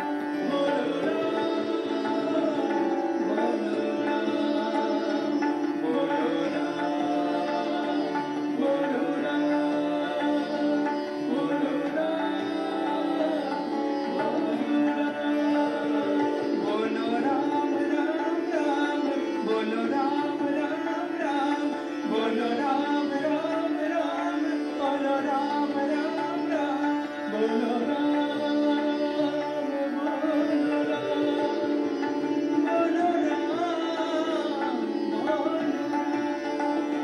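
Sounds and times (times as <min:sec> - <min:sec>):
harmonium: 0:00.0 - 0:37.0
tabla: 0:00.0 - 0:37.0
tanpura drone: 0:00.0 - 0:37.0
two men singing: 0:00.0 - 0:37.0.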